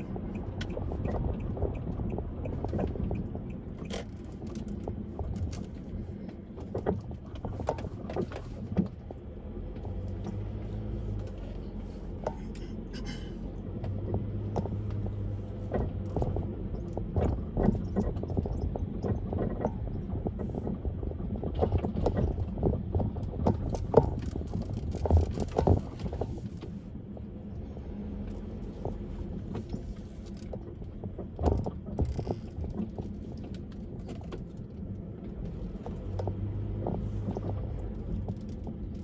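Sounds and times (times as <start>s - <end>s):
small clicks and rattles: 0.0s - 13.2s, 13.8s - 27.3s, 28.3s - 39.0s
road and engine rumble: 0.0s - 39.0s.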